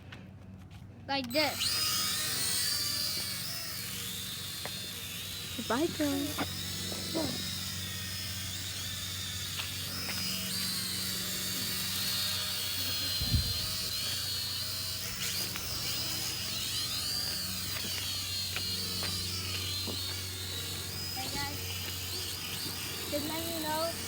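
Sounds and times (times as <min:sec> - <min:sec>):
drone propellers buzzing: 0:01.2 - 0:24.0.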